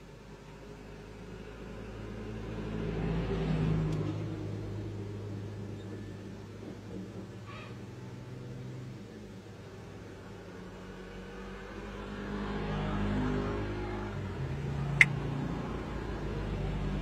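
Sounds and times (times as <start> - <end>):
vehicle engine driving past: 1.3 - 9.0, 10.4 - 17.0.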